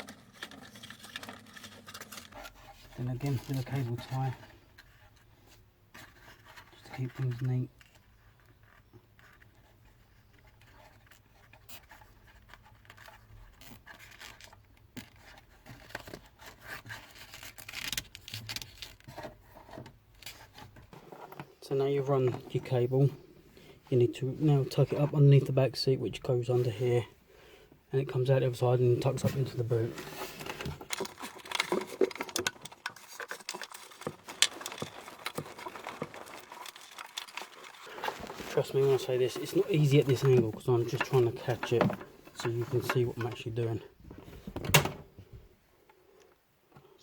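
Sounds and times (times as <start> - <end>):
cables rustling and scraping: 0.0 - 47.0.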